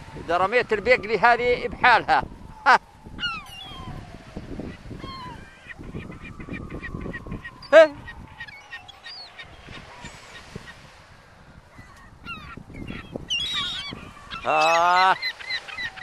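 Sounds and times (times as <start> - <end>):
gulls calling: 0.0 - 16.0.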